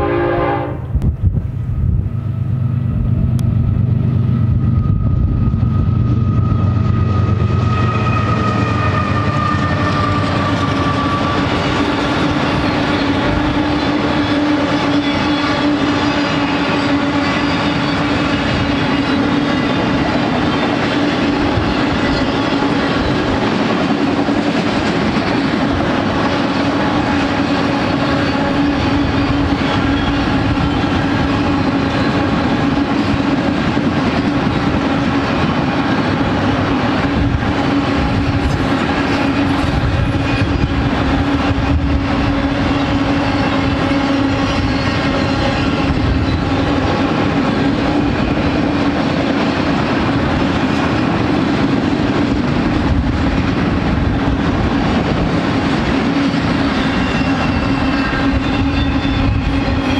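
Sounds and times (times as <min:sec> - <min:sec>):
diesel locomotives droning: 0:00.0 - 0:59.9
train wheels clickety-clack on rails: 0:00.9 - 0:59.9.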